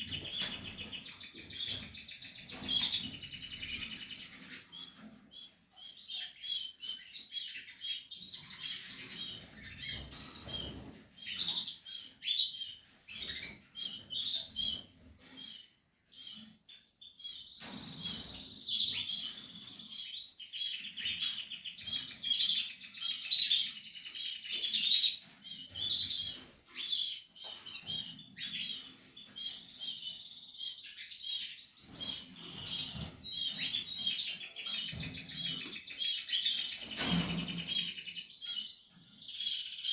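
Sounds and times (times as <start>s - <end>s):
canaries chirping and trilling: 0.0s - 39.9s.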